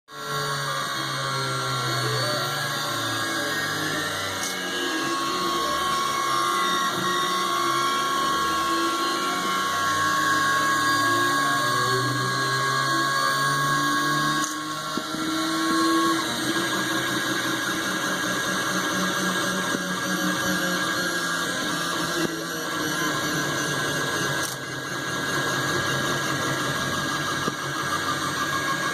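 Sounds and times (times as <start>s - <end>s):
printer stepper motors whirring: 0.1s - 28.9s.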